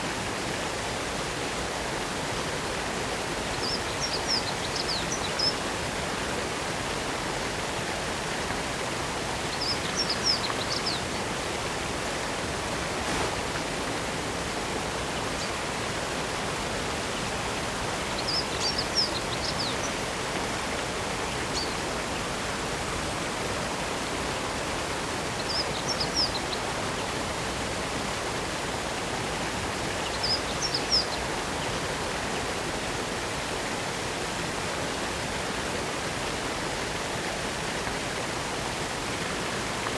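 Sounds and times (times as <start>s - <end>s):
waterfall rushing: 0.1s - 39.9s.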